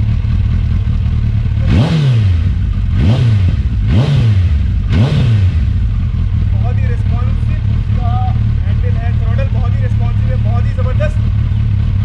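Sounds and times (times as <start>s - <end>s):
motorcycle engine idling: 0.0s - 12.0s
motorcycle engine revving: 0.0s - 12.0s.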